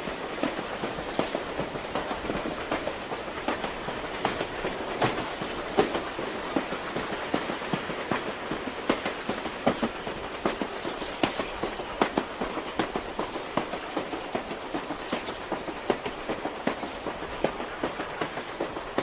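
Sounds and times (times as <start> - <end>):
train rushing rumble: 0.0 - 19.0.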